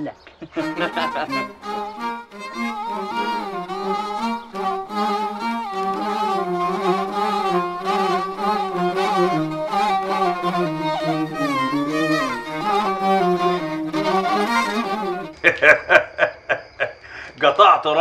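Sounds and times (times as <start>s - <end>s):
bowed fiddle melody: 0.5s - 15.5s.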